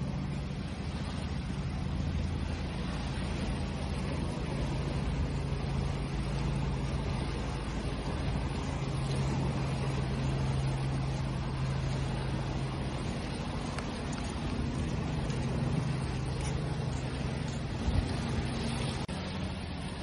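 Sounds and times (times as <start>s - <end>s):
higher hum: 0.0s - 20.0s
low engine hum: 0.0s - 20.0s
sea waves washing: 0.0s - 20.0s.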